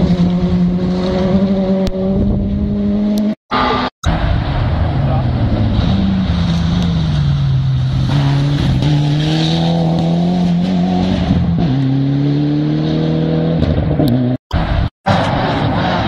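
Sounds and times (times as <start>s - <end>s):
rally car engine accelerating: 0.0s - 3.9s, 5.1s - 16.0s.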